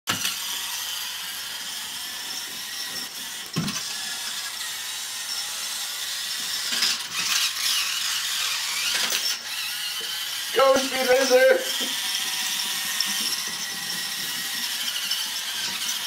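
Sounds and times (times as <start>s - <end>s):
toy car motor whirring: 0.1s - 16.0s.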